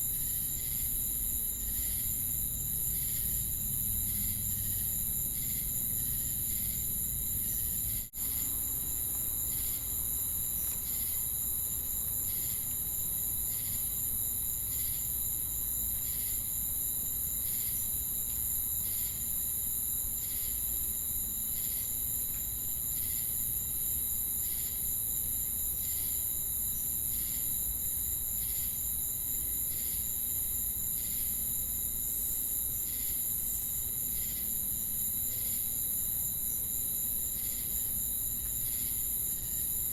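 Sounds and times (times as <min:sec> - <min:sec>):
crickets and cicadas trilling: 0:00.0 - 0:39.9
regular insect chirp: 0:00.0 - 0:39.9.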